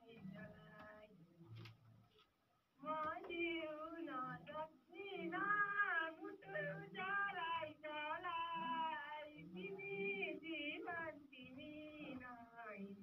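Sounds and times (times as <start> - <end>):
woman singing through telephone: 0.0 - 1.1, 2.8 - 13.0.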